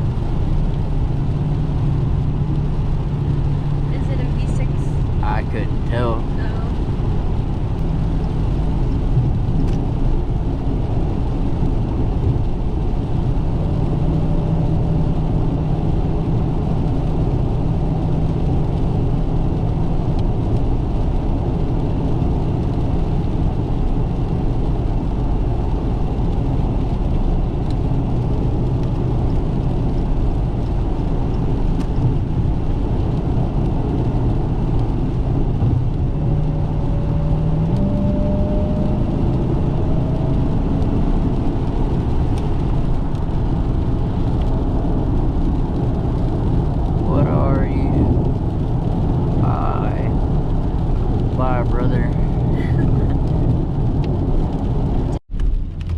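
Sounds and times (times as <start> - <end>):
car engine cruising: 0.0 - 55.9
road and tyre noise: 0.0 - 55.9.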